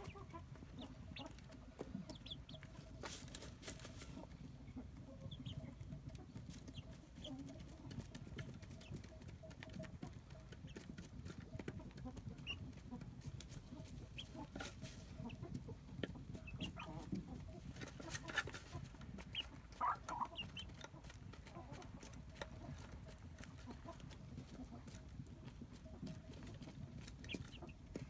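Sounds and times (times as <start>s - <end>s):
chickens clucking: 0.0s - 28.0s
faint farmyard background noise: 0.0s - 28.0s.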